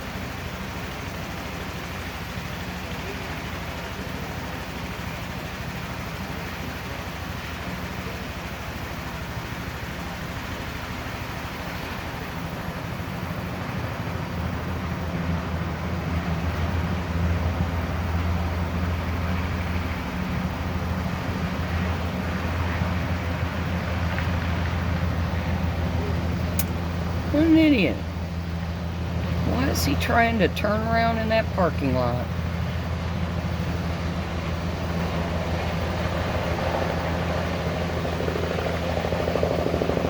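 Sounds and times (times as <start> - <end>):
helicopter rotor and turbine running: 0.0 - 40.0.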